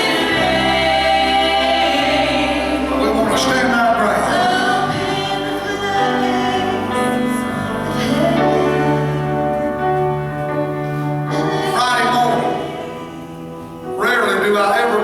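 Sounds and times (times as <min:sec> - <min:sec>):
choir singing gospel: 0:00.0 - 0:15.0.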